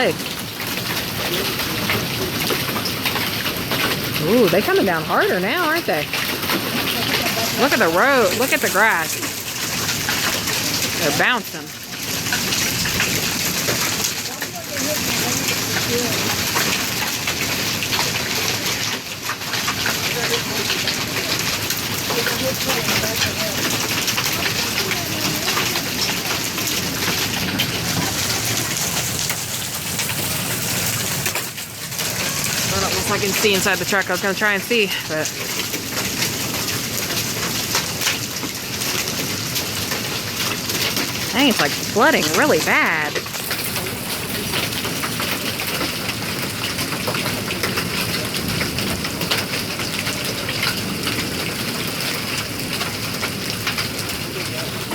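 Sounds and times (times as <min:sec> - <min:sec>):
hail pattering on ground: 0:00.0 - 0:54.9
heavy rain falling: 0:00.0 - 0:54.9.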